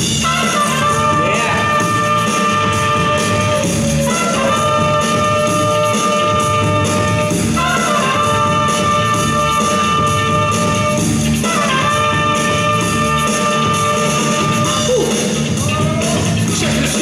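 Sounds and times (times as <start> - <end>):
steady bass line: 0.0 - 17.0
brass horns holding long notes: 0.2 - 15.0.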